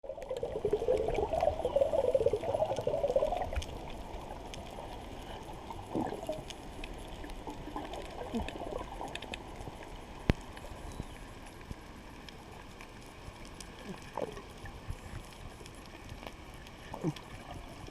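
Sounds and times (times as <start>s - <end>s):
underwater bubbly gurgling: 0.0s - 17.9s.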